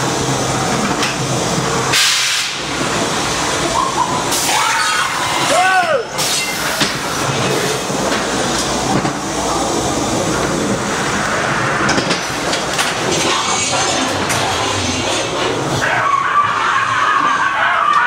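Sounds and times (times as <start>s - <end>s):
ride car rattling on steel track: 0.0s - 18.0s.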